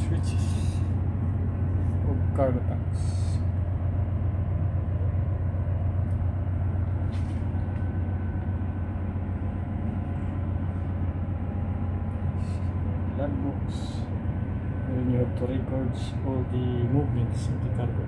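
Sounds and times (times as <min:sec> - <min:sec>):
faint high whine: 0:00.0 - 0:18.0
low machinery hum: 0:00.0 - 0:18.0.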